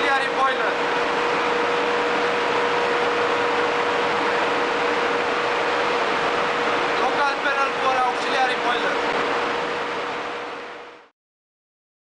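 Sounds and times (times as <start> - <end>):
engine-room machinery running: 0.0 - 11.1.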